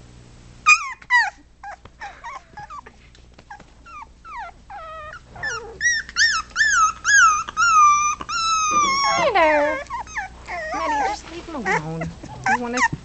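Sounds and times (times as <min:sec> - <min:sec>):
puppies whimpering and yipping: 0:00.6 - 0:13.0.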